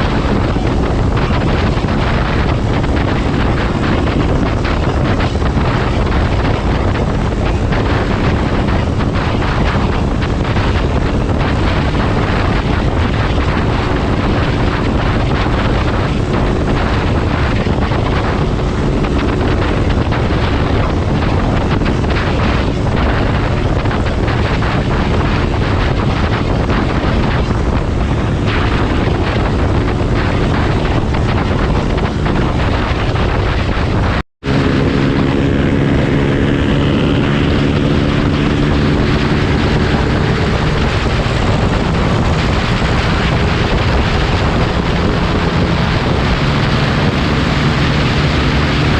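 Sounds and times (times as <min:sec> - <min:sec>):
motorcycle engine running: 0:00.0 - 0:48.9
wind rush on microphone: 0:00.0 - 0:48.9.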